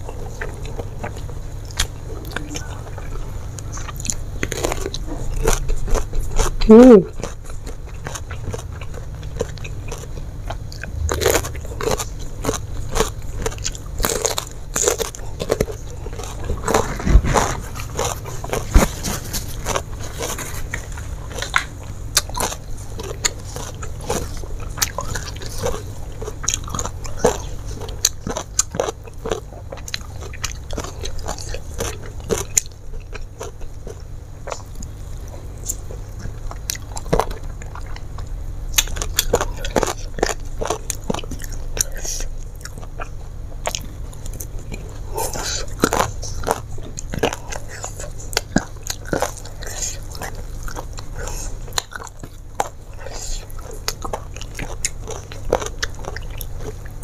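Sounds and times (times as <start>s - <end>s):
crunching and chewing: 0.0s - 57.0s.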